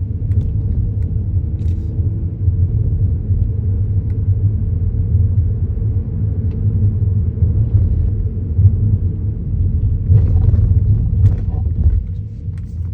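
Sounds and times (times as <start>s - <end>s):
car road rumble from inside: 0.0s - 12.9s.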